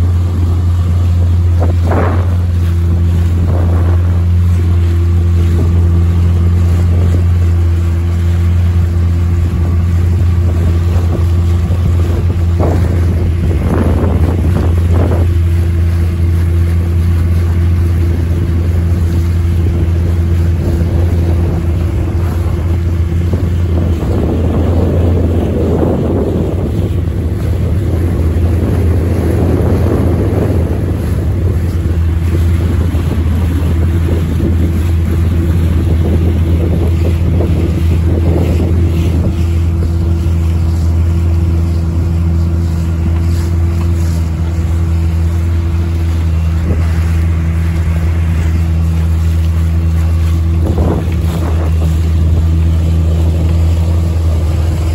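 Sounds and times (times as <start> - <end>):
motorboat engine humming: 0.0 - 54.9
water splashing past hull: 0.0 - 54.9.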